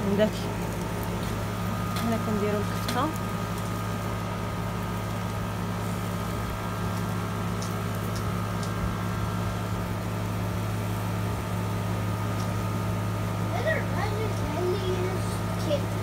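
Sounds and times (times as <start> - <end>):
low machine hum: 0.0 - 16.0
thin steady whine: 0.0 - 16.0.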